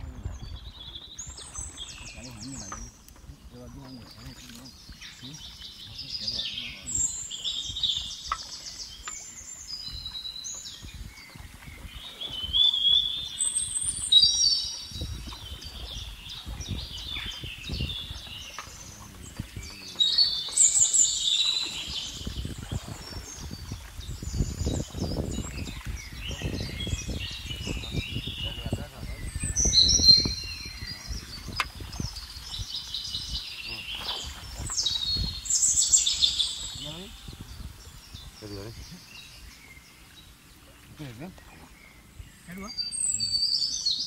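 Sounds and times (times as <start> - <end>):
birds chirping and singing: 0.0 - 44.0.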